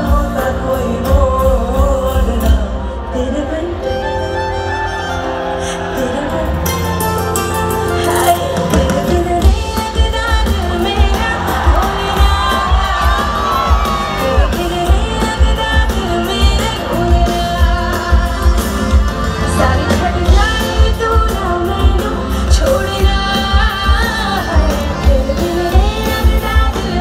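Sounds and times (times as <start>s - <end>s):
amplified pop backing music: 0.0s - 27.0s
woman singing into microphone: 0.0s - 27.0s.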